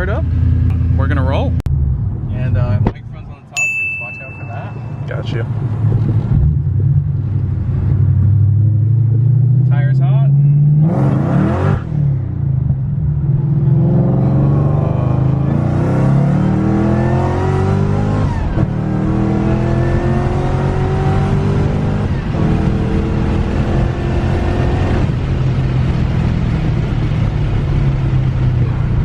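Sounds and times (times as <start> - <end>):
car engine accelerating hard: 5.3 - 29.0.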